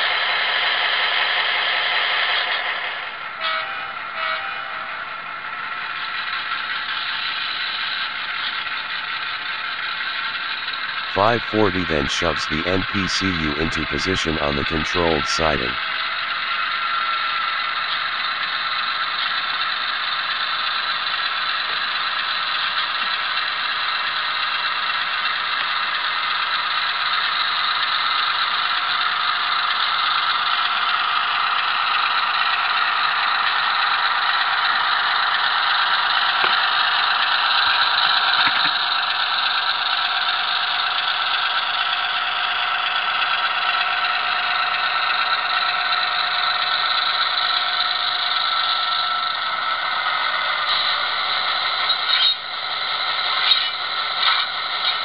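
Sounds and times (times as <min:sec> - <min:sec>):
model locomotive engine sound: 0:00.0 - 0:12.6, 0:14.2 - 0:55.0.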